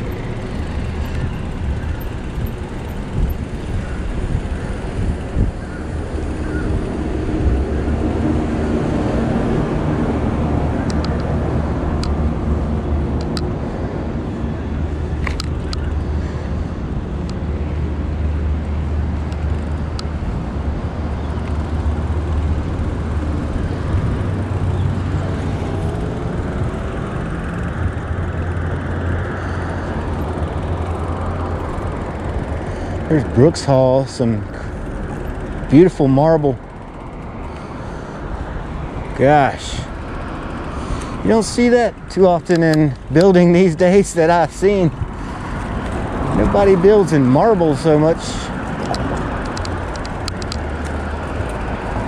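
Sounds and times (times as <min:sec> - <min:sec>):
cars passing: 0:00.0 - 0:52.0
low traffic rumble: 0:00.0 - 0:52.0.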